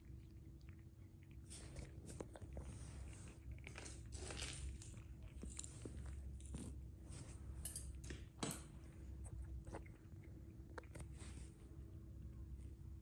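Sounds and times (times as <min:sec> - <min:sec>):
kittens crunching dry kibble: 0:00.0 - 0:12.3.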